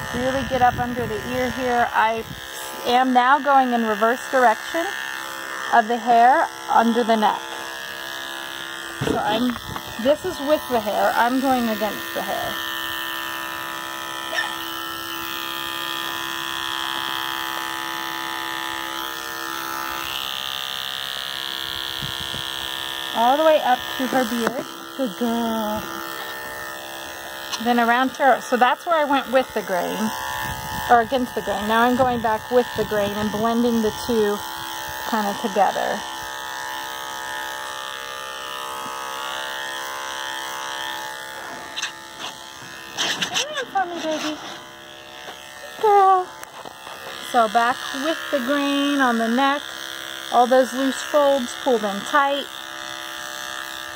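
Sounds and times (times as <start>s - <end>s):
electric clippers buzzing: 0.0s - 53.9s.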